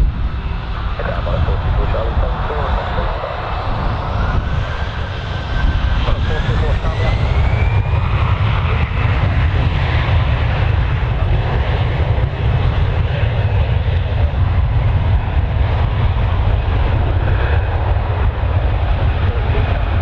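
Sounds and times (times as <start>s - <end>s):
jet engines rumbling at takeoff: 0.0s - 20.0s.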